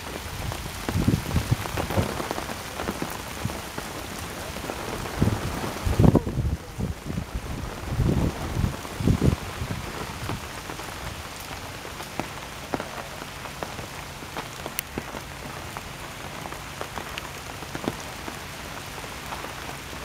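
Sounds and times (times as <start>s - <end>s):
raindrops tapping: 0.0s - 20.0s
steady rain hissing: 0.0s - 20.0s.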